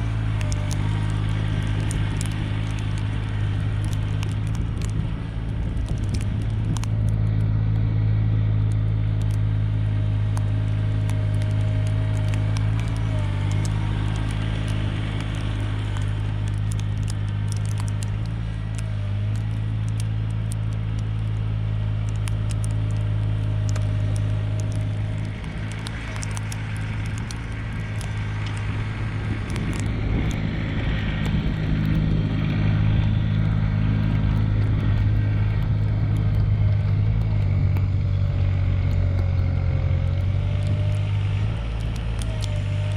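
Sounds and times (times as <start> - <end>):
faint clicks and crackle: 0.0 - 42.9
tractor diesel engine running: 0.0 - 42.9.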